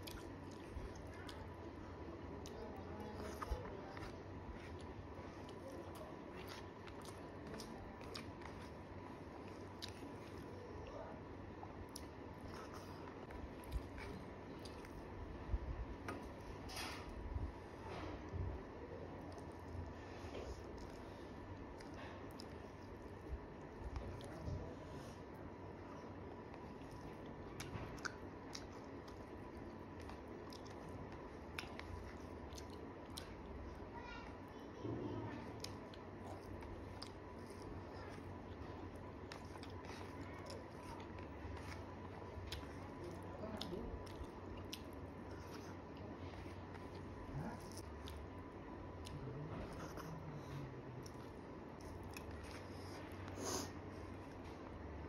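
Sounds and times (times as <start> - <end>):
chewing rice: 0.0 - 55.0.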